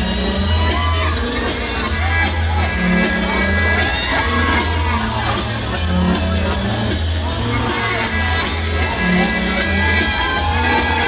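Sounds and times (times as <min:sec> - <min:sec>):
pop music with heavy bass line: 0:00.0 - 0:11.0.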